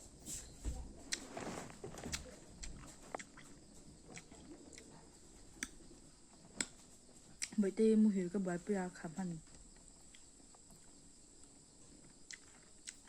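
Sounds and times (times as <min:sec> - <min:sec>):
soft chewing: 0:00.1 - 0:08.0, 0:09.4 - 0:13.0.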